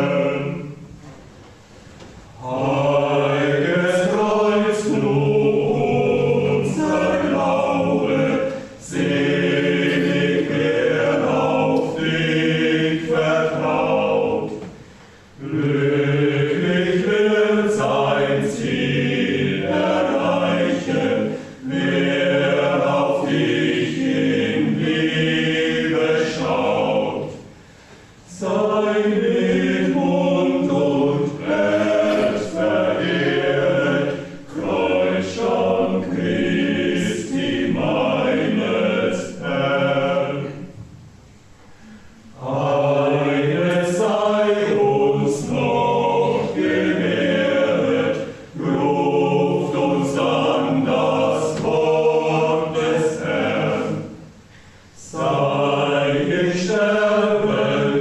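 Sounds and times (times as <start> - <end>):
choir singing a slow hymn: 0.0 - 58.0.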